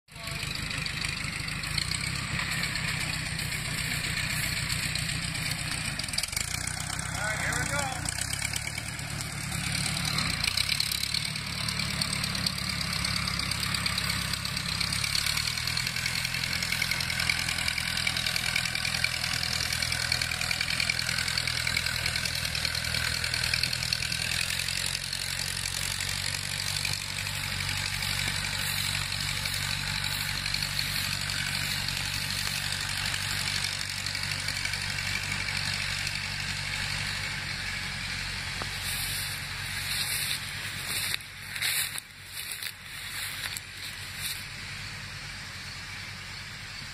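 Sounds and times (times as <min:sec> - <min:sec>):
tractor engine running under load: 0:00.1 - 0:46.9.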